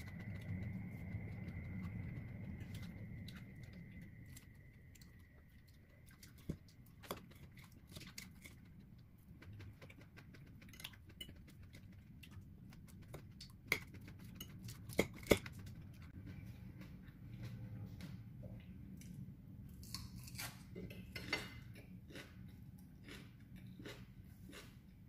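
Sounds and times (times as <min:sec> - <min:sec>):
soft chewing: 0:00.0 - 0:19.2, 0:19.8 - 0:25.0.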